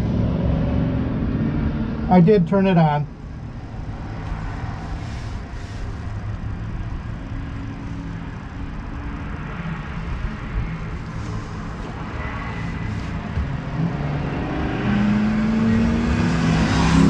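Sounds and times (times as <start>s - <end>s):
cars passing faintly: 0.0s - 17.0s.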